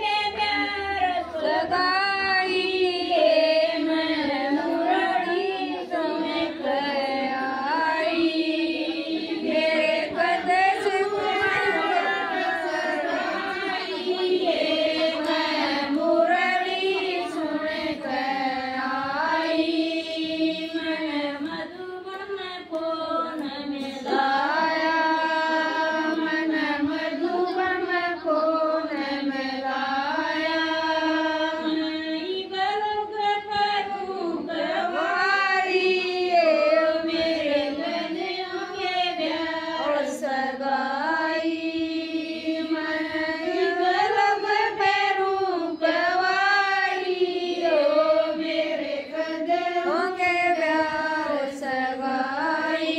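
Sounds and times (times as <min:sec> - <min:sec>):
woman singing unaccompanied: 0:00.0 - 0:52.9.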